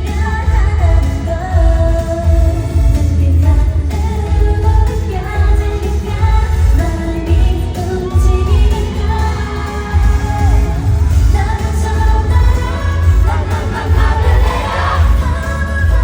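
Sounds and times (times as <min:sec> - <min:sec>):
heavy pulsing bass beat: 0:00.0 - 0:16.0
pop song over loudspeakers: 0:00.0 - 0:16.0
women singing: 0:00.0 - 0:16.0.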